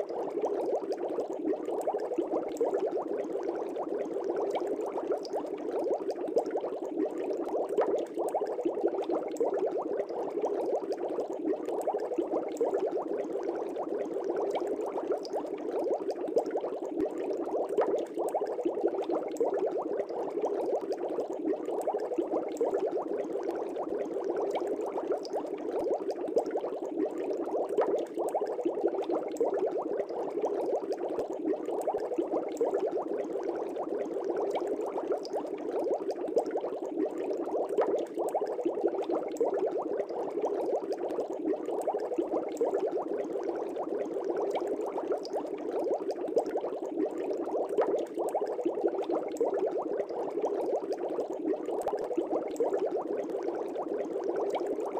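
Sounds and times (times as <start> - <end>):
air bubbles in fish tank: 0.0 - 54.9.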